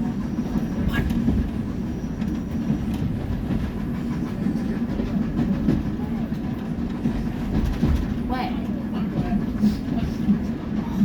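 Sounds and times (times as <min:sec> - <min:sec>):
train carriage rumbling on track: 0:00.0 - 0:11.0.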